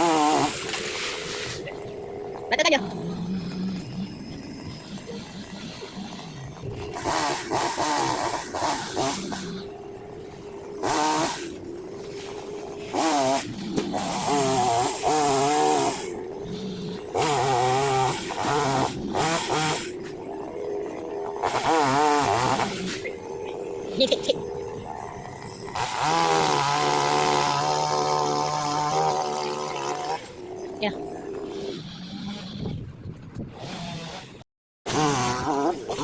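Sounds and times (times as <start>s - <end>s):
chainsaw idling and revving: 0.0s - 32.8s, 33.5s - 36.0s.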